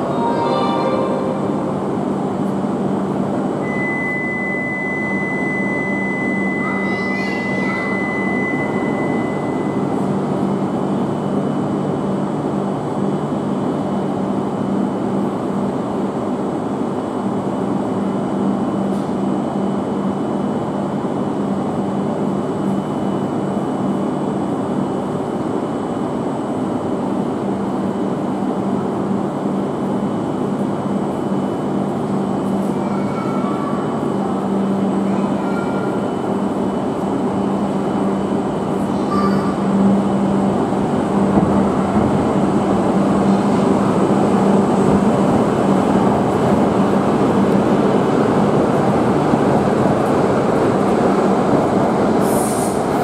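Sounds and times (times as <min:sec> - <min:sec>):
train low hum and rushing: 0:00.0 - 0:53.0.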